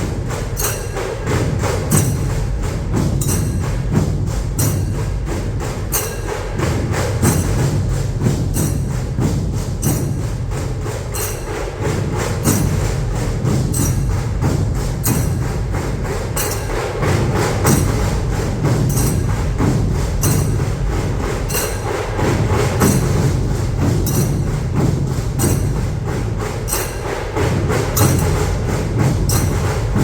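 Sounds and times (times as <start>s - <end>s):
low drumming: 0.0s - 30.0s
rapid drum strokes: 0.0s - 30.0s.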